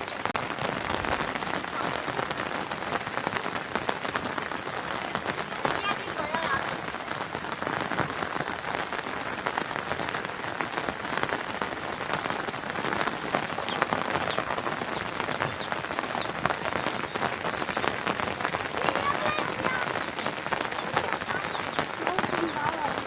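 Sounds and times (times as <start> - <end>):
raindrops hitting close by: 0.0 - 23.0
steady rain falling: 0.0 - 23.0.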